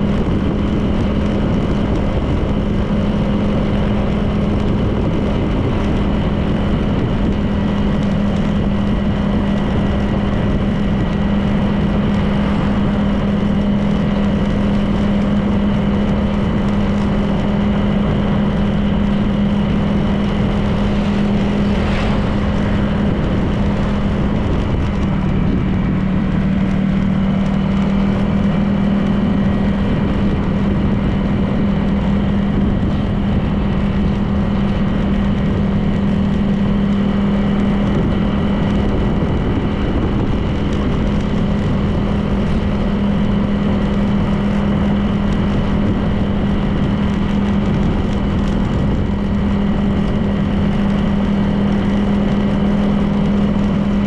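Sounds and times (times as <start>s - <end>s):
scooter engine droning: 0.0s - 54.0s
wind and road noise: 0.0s - 54.0s.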